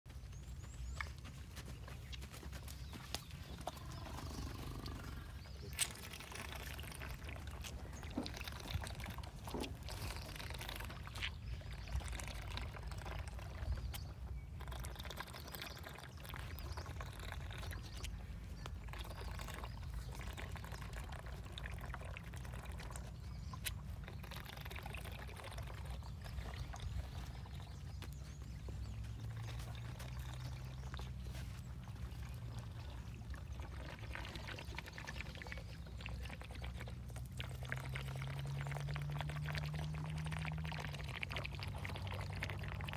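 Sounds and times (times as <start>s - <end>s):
milk gurgling and sloshing: 3.4s - 42.9s.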